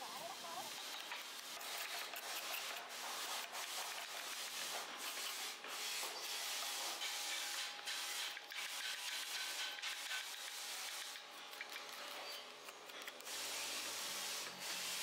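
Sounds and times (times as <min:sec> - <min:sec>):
sandpaper scratching wood: 0:00.0 - 0:15.0.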